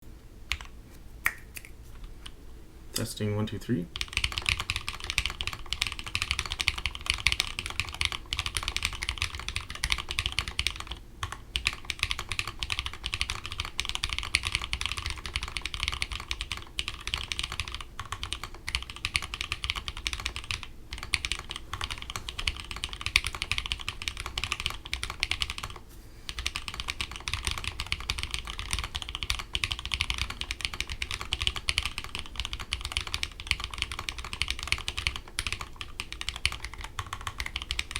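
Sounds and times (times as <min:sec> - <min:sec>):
typing on mechanical keyboard: 0:04.0 - 0:37.9.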